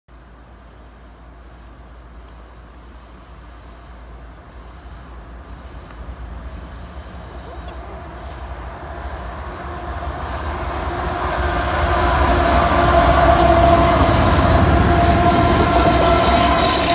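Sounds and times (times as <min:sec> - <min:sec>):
diesel locomotive engine rumble: 0:00.1 - 0:16.9
steady humming tone: 0:00.1 - 0:16.9.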